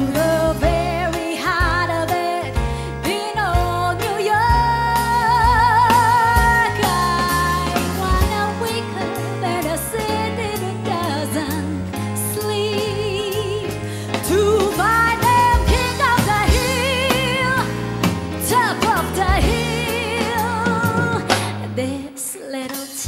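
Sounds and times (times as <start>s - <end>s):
backing band: 0.0s - 23.0s
woman singing: 0.0s - 23.0s.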